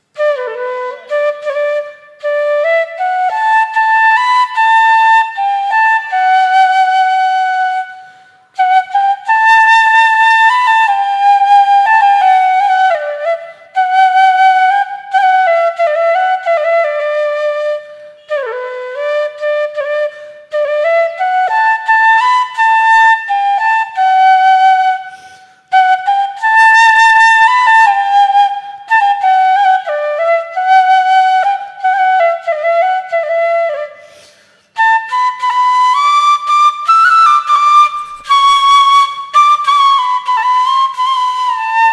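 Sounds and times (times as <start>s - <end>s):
solo flute melody: 0.0s - 41.9s.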